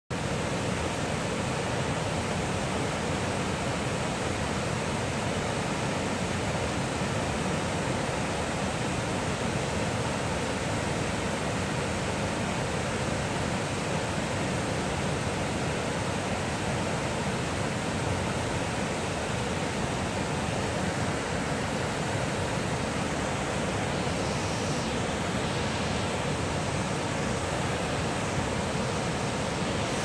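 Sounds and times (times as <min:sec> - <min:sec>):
waterfall roaring over rocks: 0:00.1 - 0:30.0.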